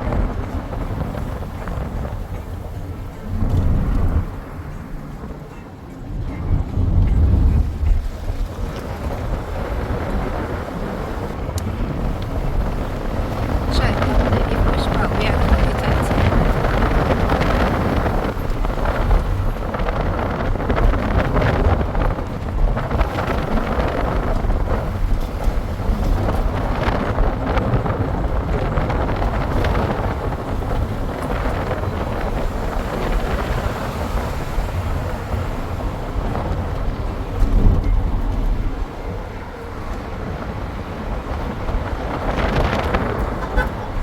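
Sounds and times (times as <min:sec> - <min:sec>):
vehicle engine and road noise: 0:00.0 - 0:44.0
wind buffeting microphone: 0:00.0 - 0:44.0.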